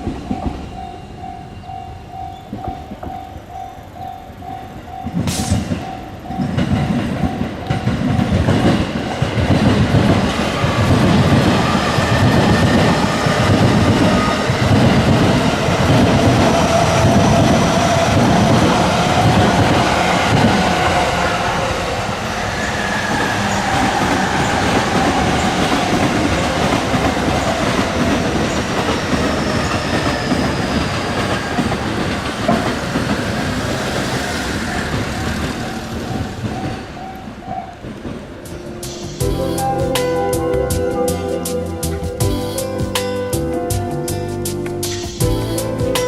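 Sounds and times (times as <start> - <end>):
wheels clattering over rail joints: 0.0 - 40.9
electric train passing: 0.0 - 46.0.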